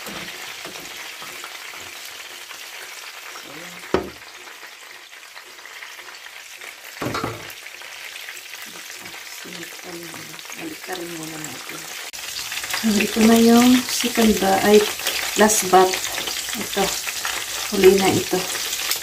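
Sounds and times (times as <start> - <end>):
shrimp deep-frying in oil: 0.0 - 19.0.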